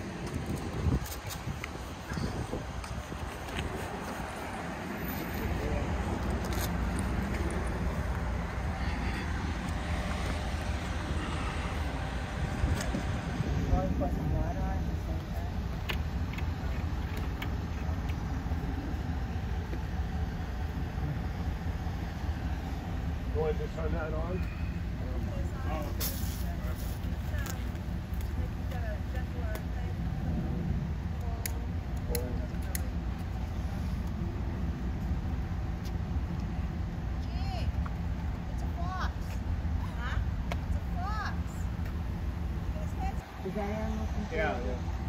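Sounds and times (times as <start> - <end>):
low outdoor rumble: 0.0 - 45.0.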